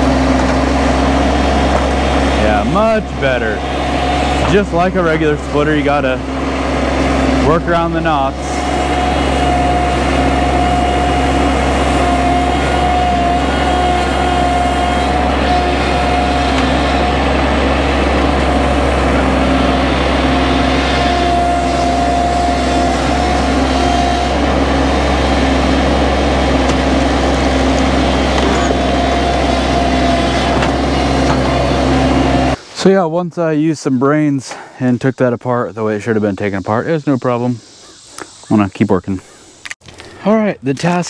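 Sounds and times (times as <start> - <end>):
high wavering whine: 0.0 - 33.0
engine running under load: 0.0 - 37.4.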